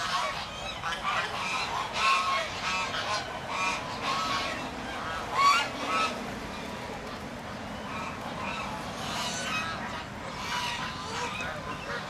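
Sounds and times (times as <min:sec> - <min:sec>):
geese honking: 0:00.0 - 0:06.2, 0:07.8 - 0:12.0.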